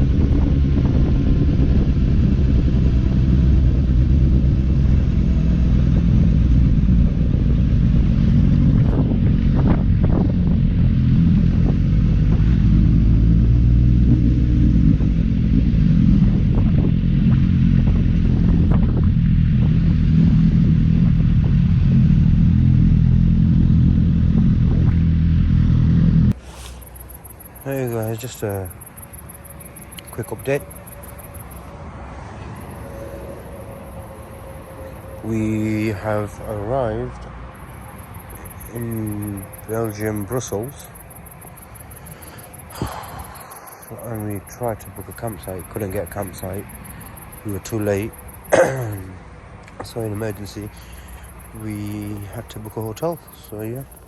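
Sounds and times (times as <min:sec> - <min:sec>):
motorcycle engine cruising: 0:00.0 - 0:54.0
road and wind noise: 0:00.0 - 0:54.0.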